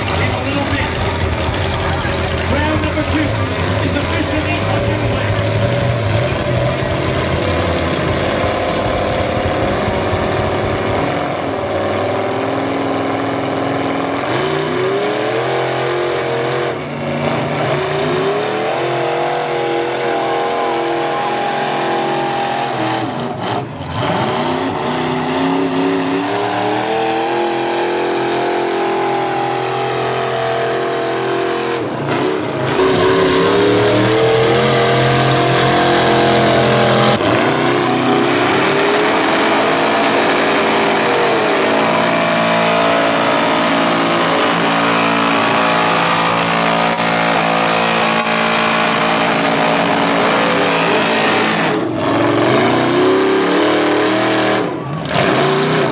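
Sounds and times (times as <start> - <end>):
monster truck engine revving: 0.0 - 55.9
second truck engine: 0.0 - 55.9.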